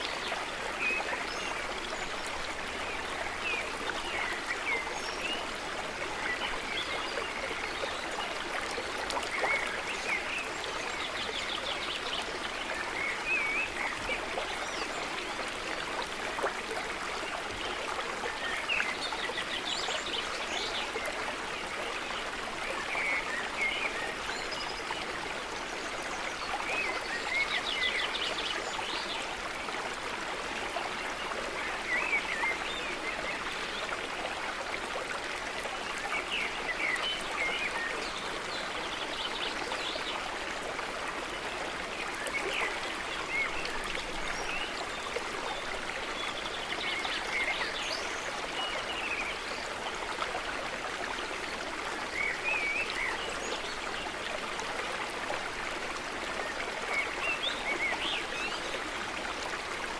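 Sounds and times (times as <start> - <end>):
water running over rocks: 0.0 - 59.9.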